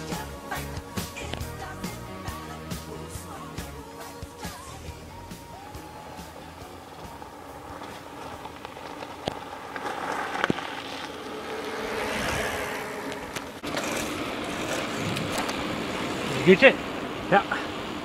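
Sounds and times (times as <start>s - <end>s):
bike tyre skid: 0.0s - 18.0s
bike tyres crunching on gravel: 0.0s - 18.0s
steady rushing noise: 0.0s - 18.0s.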